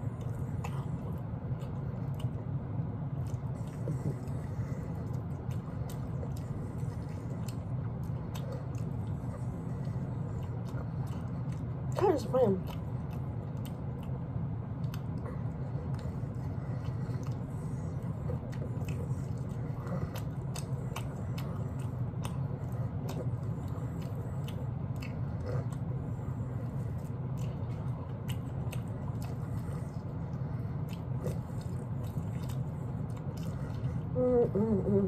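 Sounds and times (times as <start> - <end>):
chewing and lip smacks: 0.0 - 34.6
steady low hum: 0.0 - 35.0.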